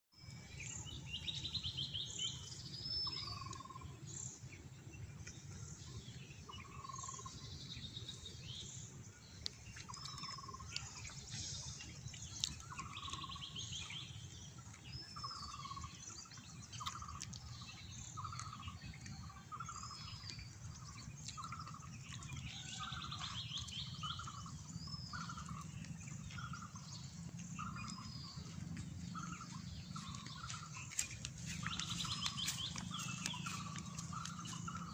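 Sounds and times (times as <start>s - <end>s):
birds chirping and trilling: 0.2s - 34.9s
low background rumble: 0.4s - 34.9s.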